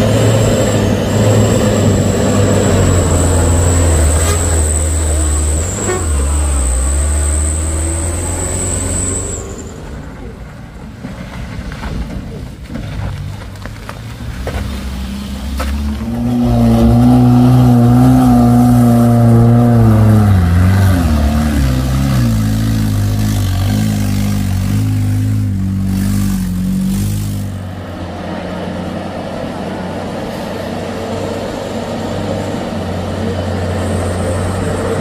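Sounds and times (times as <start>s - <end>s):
vehicle engine revving: 0.0s - 10.5s, 12.8s - 35.0s.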